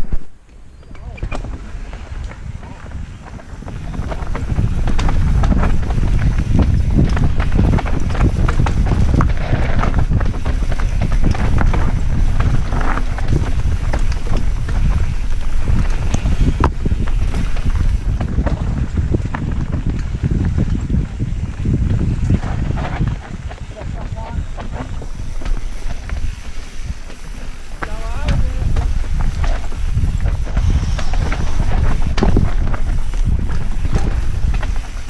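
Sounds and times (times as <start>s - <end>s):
bike tyre noise: 0.0s - 35.0s
wind buffeting microphone: 0.0s - 35.0s
bike clicks and rattles: 0.1s - 35.0s.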